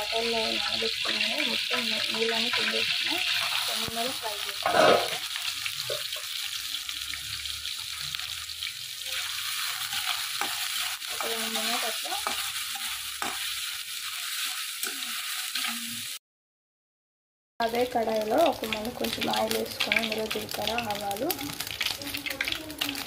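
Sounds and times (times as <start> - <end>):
food sizzling in oil: 0.0 - 16.2, 17.6 - 23.0.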